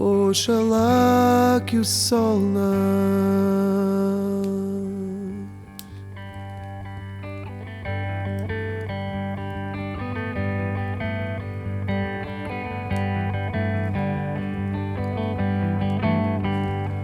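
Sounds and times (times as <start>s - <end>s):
plucked guitar figure: 0.0s - 17.0s.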